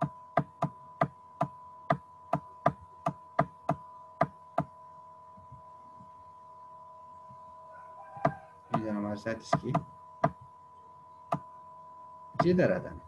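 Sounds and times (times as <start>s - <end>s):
two-tone electrical hum: 0.0s - 13.0s.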